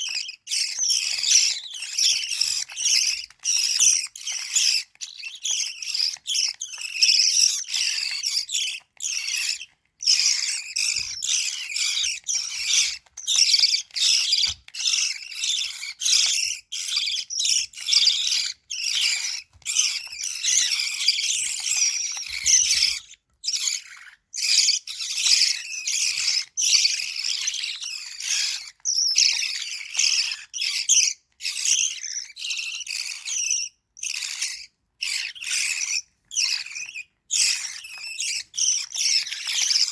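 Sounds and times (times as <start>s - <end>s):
chicks chirping begging calls: 0.0s - 39.9s.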